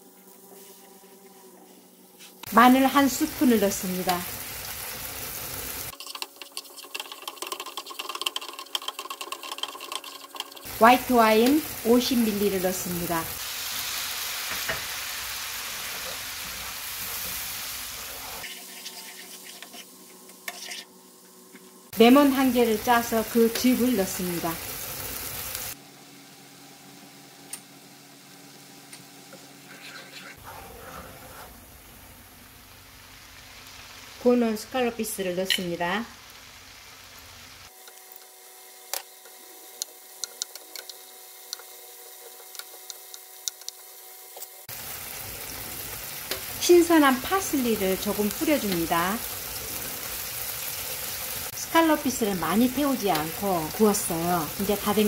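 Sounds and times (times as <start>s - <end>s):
sizzling and bubbling in a pan: 2.4s - 55.0s.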